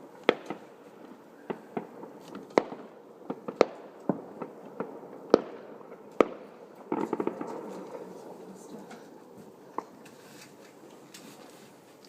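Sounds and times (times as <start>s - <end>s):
fireworks bangs: 0.0s - 12.0s
small firework pops: 0.2s - 12.0s.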